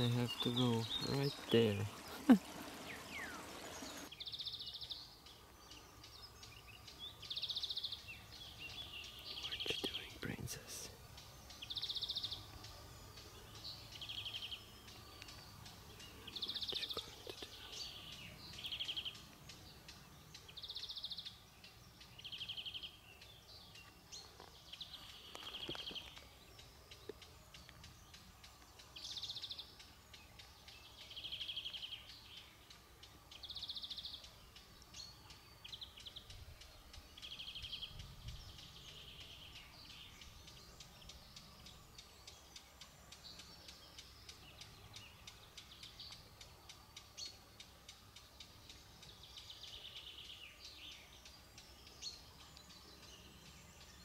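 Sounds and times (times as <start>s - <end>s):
bird singing buzzy trills: 0.0s - 54.0s
faint outdoor background: 0.0s - 54.0s.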